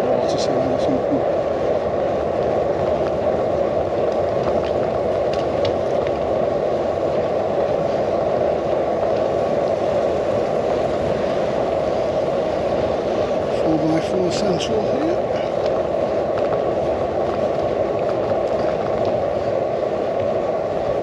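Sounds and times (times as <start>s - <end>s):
bicycle tyres rolling: 0.0s - 21.0s
wind rushing: 0.0s - 21.0s.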